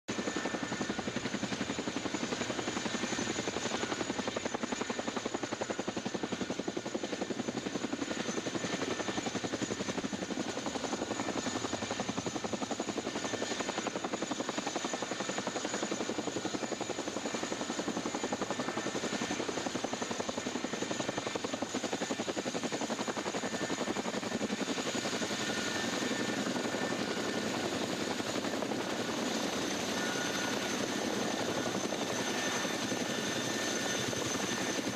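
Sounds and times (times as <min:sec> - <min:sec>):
helicopter rotor blade chop: 0:00.1 - 0:34.9
high turbine whine: 0:00.1 - 0:34.9.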